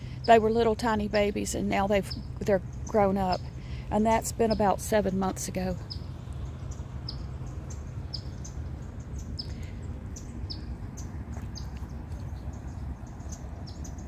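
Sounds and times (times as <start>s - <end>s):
low background rumble: 0.0s - 14.0s
small bird chirping: 1.7s - 14.0s.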